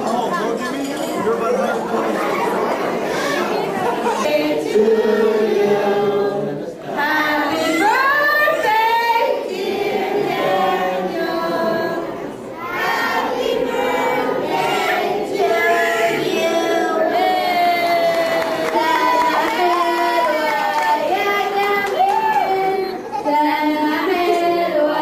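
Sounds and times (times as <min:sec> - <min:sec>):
crowded room noise: 0:00.0 - 0:25.0
group singing: 0:01.6 - 0:25.0.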